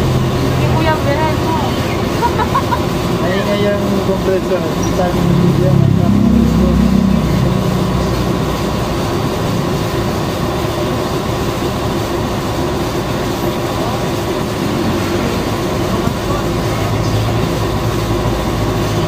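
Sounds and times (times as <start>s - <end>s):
air compressor running: 0.0s - 19.0s.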